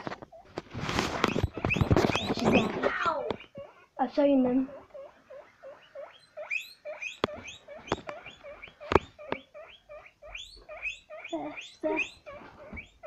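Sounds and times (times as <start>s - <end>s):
guinea pig squeaking: 0.0s - 13.0s.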